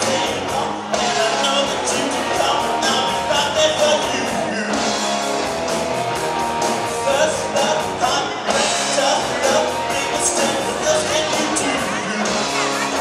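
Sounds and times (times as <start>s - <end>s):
person singing: 0.0s - 5.2s, 7.0s - 13.0s
bass guitar: 0.0s - 13.0s
drum kit beat: 0.0s - 13.0s
electric guitars: 0.0s - 13.0s.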